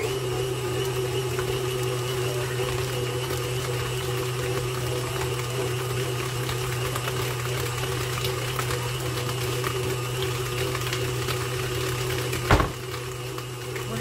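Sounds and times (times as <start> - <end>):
stand mixer running: 0.0 - 14.0.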